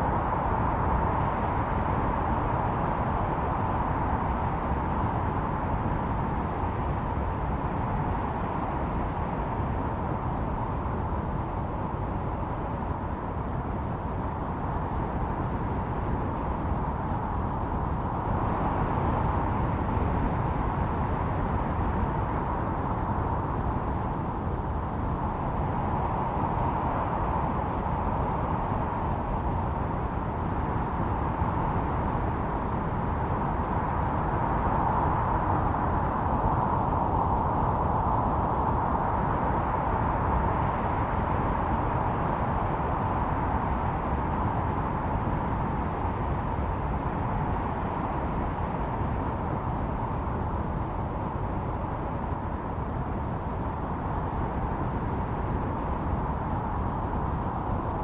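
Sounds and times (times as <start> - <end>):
howling blizzard wind: 0.0 - 58.0.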